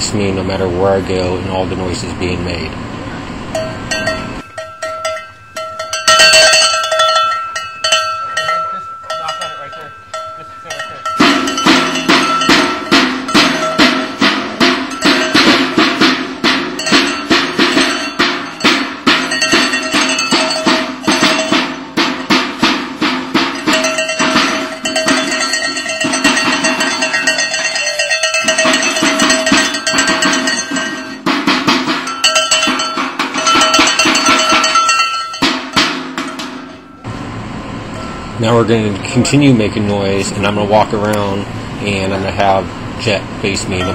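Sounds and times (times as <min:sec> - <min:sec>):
metallic clanking percussion: 0:03.4 - 0:43.9.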